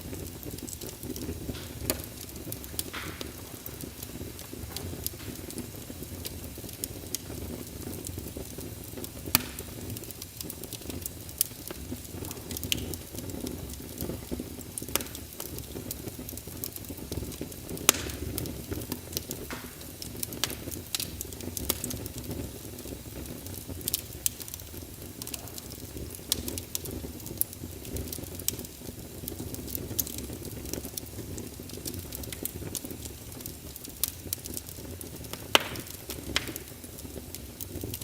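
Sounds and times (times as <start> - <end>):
fire crackling and popping: 0.0 - 38.0
low rumble of flame: 0.0 - 38.0.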